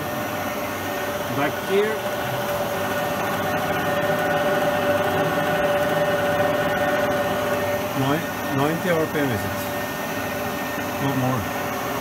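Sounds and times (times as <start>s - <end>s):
milling machine gear whine: 0.0s - 12.0s
motor hum: 0.0s - 12.0s.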